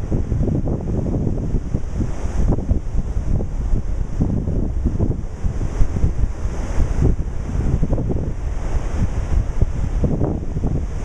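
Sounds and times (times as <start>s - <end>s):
ocean surf washing on shore: 0.0s - 11.0s
wind buffeting microphone: 0.0s - 11.0s.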